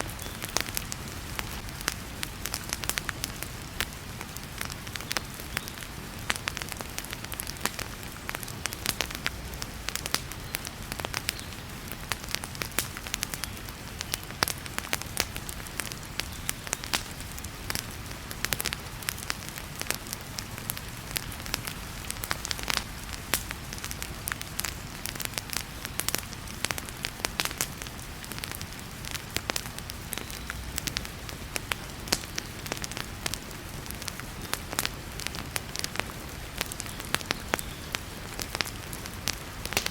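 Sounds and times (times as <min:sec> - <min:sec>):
heavy rain hissing: 0:00.0 - 0:39.9
wood fire crackling and popping: 0:00.0 - 0:39.9.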